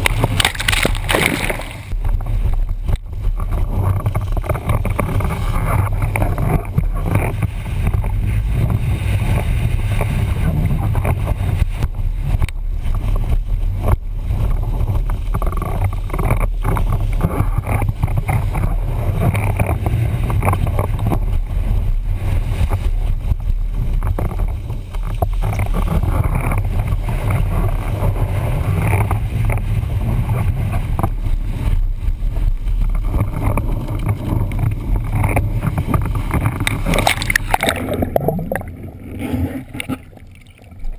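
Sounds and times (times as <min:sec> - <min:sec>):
water rushing under board: 0:00.0 - 0:40.9
wind buffeting microphone: 0:00.0 - 0:40.9.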